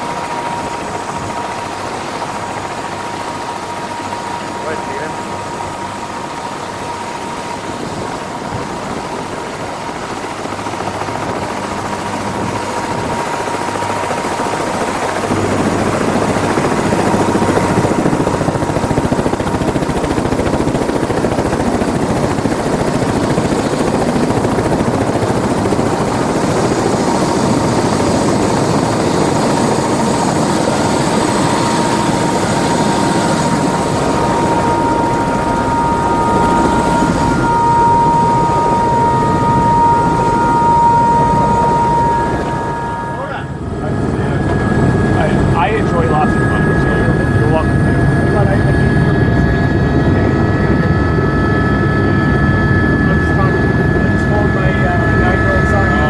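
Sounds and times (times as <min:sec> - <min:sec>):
helicopter running on the ground: 0:00.0 - 0:56.0.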